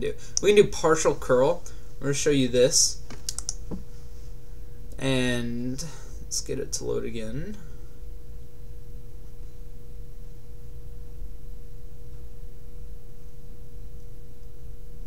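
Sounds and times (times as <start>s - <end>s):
low hum: 0.0s - 15.0s
steady pure tone: 0.0s - 15.0s.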